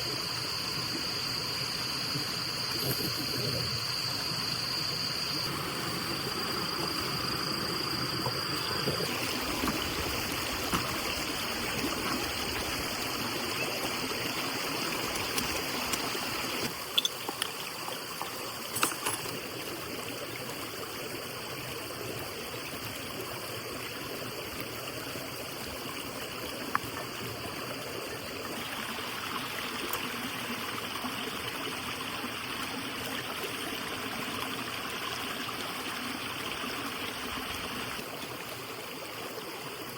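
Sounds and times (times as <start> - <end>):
running water trickling: 0.2 - 39.9.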